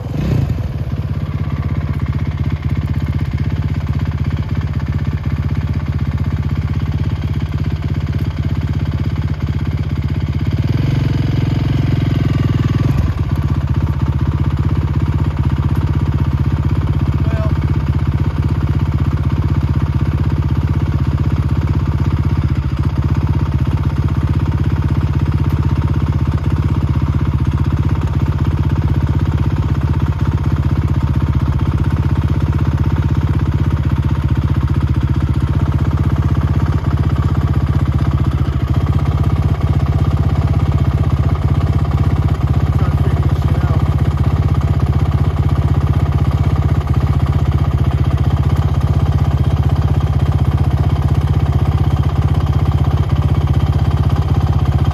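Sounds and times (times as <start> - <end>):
quad bike engine running: 0.0 - 54.9.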